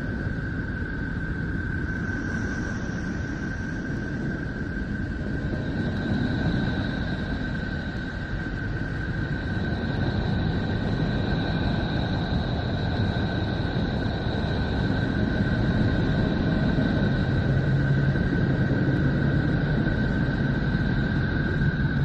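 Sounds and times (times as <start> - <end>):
deep rumbling noise: 0.0 - 22.0.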